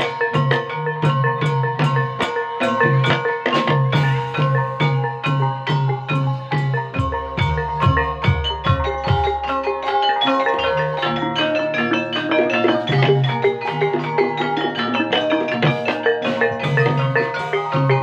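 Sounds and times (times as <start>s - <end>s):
drum: 0.0s - 18.0s
mallet-struck pitched percussion: 0.0s - 18.0s.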